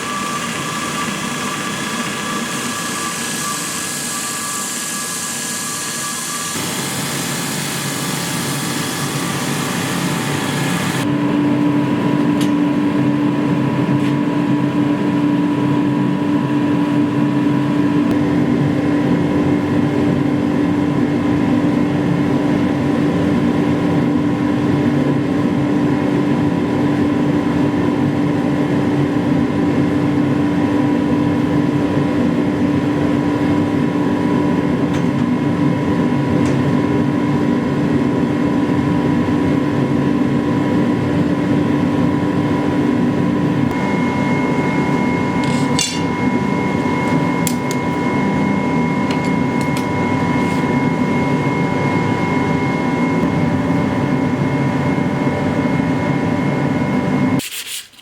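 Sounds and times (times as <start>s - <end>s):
machine hum: 0.0s - 21.5s, 31.2s - 57.4s.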